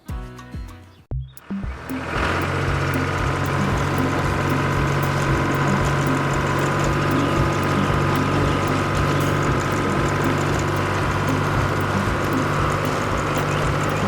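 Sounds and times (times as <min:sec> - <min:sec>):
engine humming with low pulse: 0:01.1 - 0:14.0.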